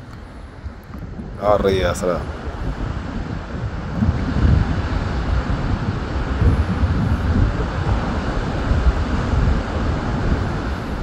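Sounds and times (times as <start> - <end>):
wind buffeting microphone: 0.0 - 11.0
surf breaking on beach: 0.6 - 11.0.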